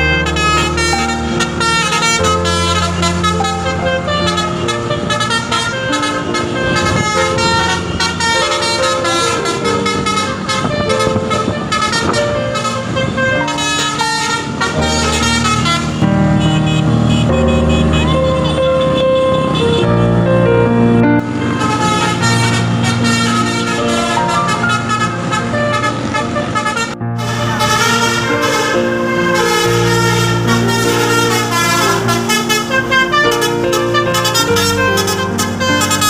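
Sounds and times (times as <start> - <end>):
air horn playing melody: 0.0 - 36.0.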